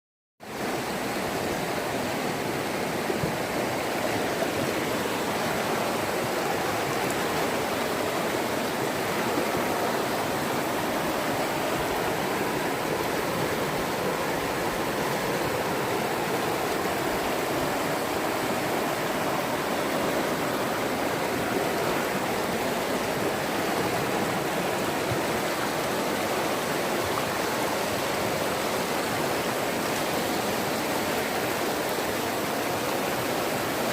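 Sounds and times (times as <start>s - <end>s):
waterfall rushing: 0.4s - 33.9s.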